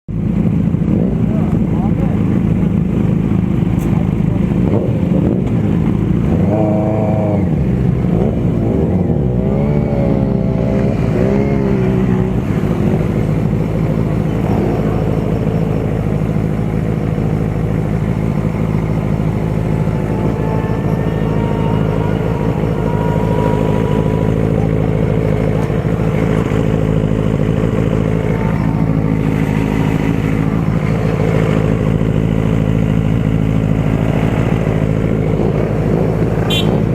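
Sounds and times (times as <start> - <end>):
motorcycle engine running: 0.1 - 36.9.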